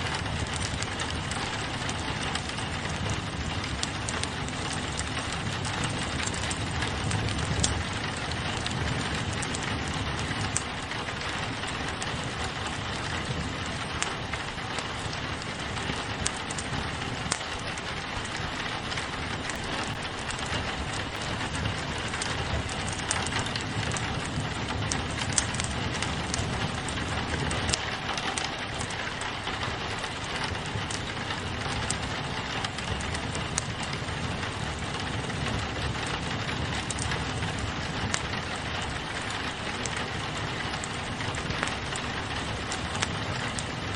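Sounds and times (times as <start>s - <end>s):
rain on a window: 0.0s - 43.9s
wood fire crackling: 0.0s - 43.9s.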